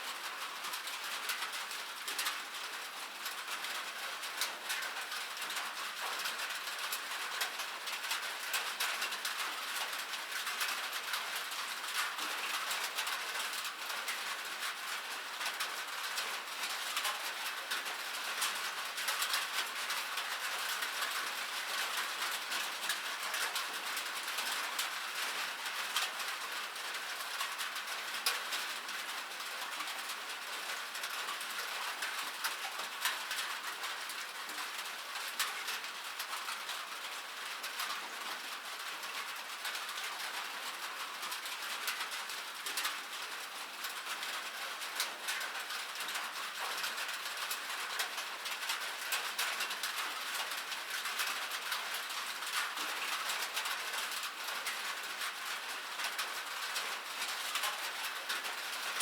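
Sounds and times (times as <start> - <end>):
rain pattering on metal: 0.0 - 59.0.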